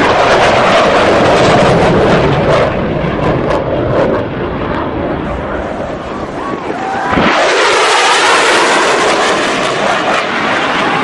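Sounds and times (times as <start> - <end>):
fighter jet roar with crackles: 0.0 - 11.0.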